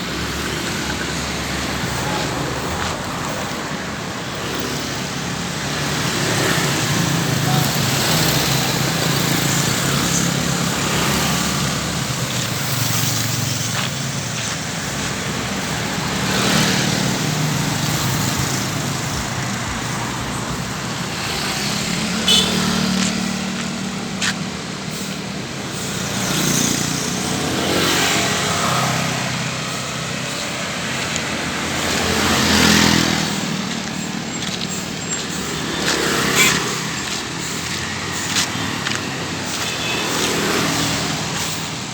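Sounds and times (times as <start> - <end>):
street background noise: 0.0 - 41.9
vehicles passing: 0.0 - 41.9.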